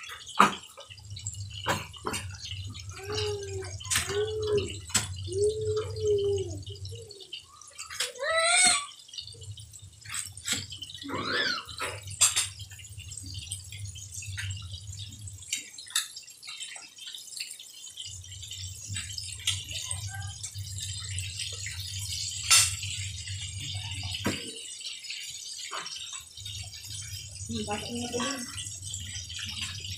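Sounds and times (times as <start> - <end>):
chicken sizzling in hot oil: 0.0 - 29.9.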